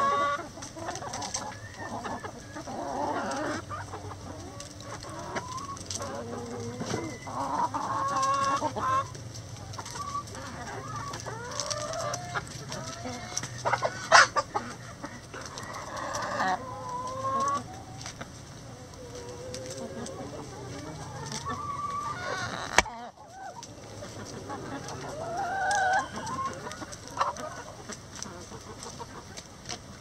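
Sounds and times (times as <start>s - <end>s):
hens clucking and squawking: 0.0s - 30.0s.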